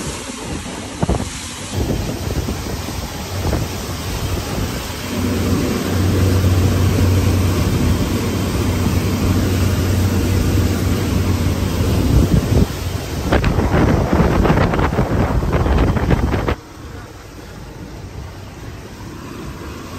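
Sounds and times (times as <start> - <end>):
water rushing past hull: 0.0 - 19.9
wind buffeting microphone: 0.5 - 19.0
electric motor low hum: 3.1 - 19.9.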